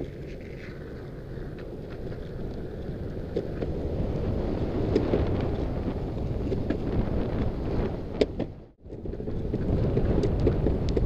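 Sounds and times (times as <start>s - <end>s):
skateboard wheels rolling on asphalt: 0.0s - 11.0s
wind buffeting microphone: 0.0s - 11.0s.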